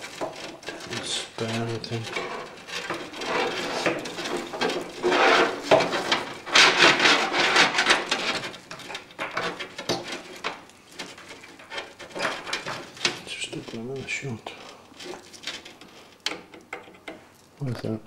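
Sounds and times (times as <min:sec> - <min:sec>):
cables and plastic parts scraping: 0:00.0 - 0:18.0.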